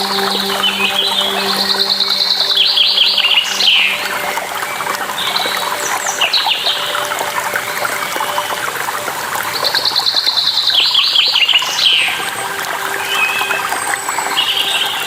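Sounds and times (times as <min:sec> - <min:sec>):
falling water rushing: 0:00.0 - 0:15.0
songbirds calling: 0:00.0 - 0:15.0.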